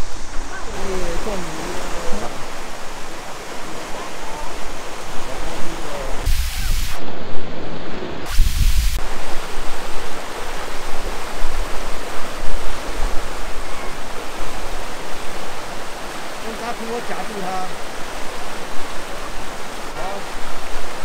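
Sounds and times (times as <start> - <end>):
creek rushing over stones: 0.0 - 21.0.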